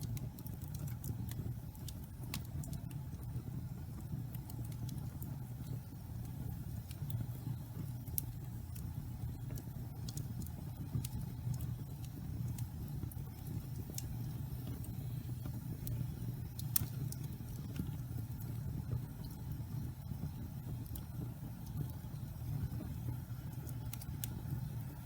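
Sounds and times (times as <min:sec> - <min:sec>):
low rumble of flames: 0:00.0 - 0:25.0
wood crackling and popping: 0:00.0 - 0:25.0.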